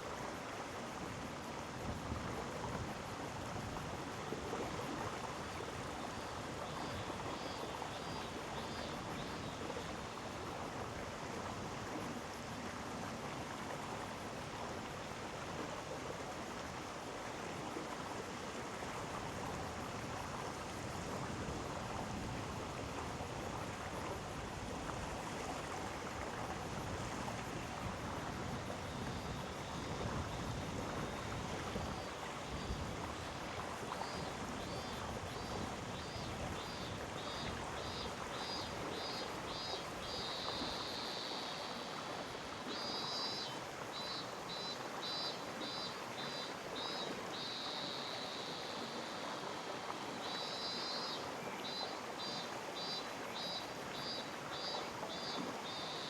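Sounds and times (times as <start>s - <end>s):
stream rushing: 9.9s - 56.0s.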